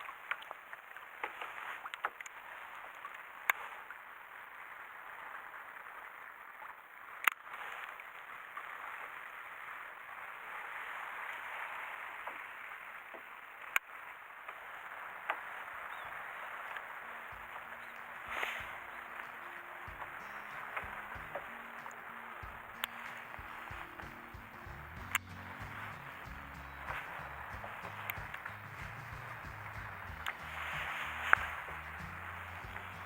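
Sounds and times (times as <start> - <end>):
water lapping against kayak hull: 0.1 - 33.0.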